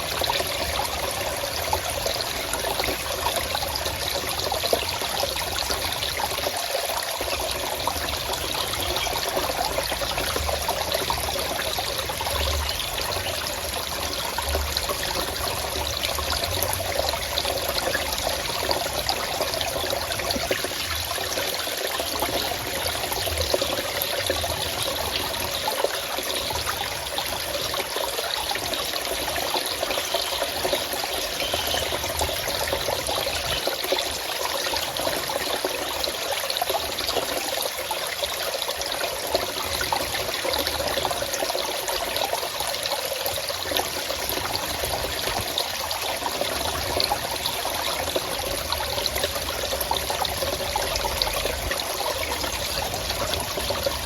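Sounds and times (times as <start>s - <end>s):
forest stream trickling: 0.0s - 54.0s.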